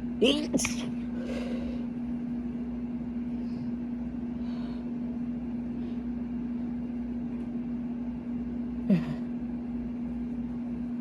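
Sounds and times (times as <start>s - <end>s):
air conditioning unit humming: 0.0s - 11.0s.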